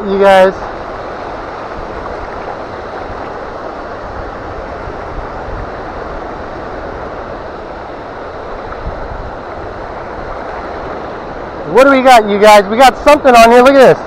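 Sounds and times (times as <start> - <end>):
wind buffeting microphone: 0.0 - 13.0
ocean surf on a beach: 0.0 - 14.0.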